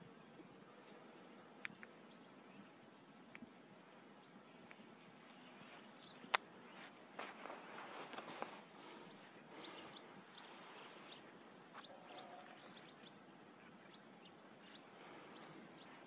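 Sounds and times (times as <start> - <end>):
small birds chirping: 0.0 - 16.0
soft outdoor hiss: 0.0 - 16.0.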